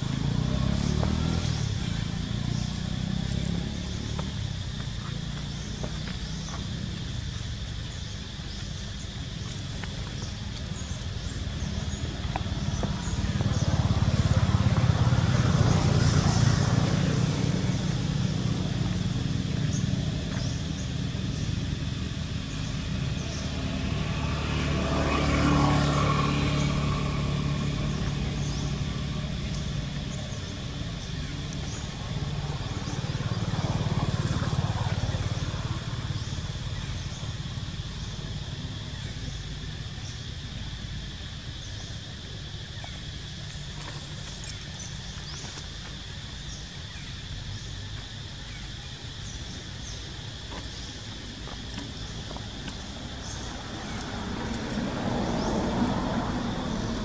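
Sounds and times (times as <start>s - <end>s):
motor vehicles passing by: 0.0s - 57.0s.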